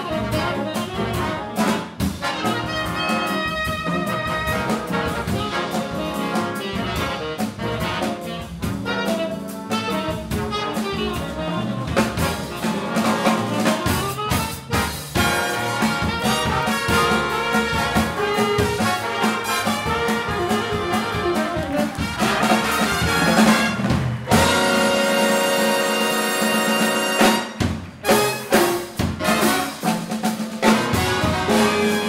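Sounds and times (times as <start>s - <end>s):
jazz big band playing: 0.0s - 32.0s.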